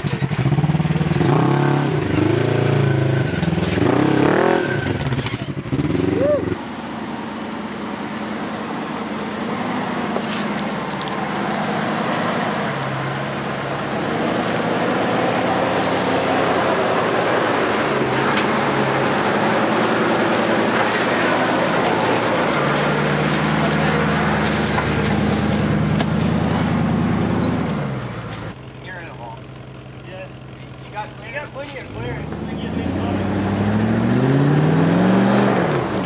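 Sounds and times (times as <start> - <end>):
engine working under load: 0.0 - 36.0.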